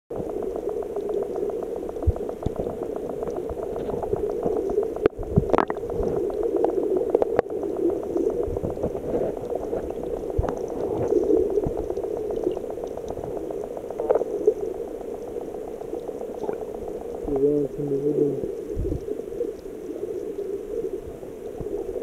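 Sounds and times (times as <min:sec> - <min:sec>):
muffled water sloshing and bubbling: 0:00.1 - 0:22.0.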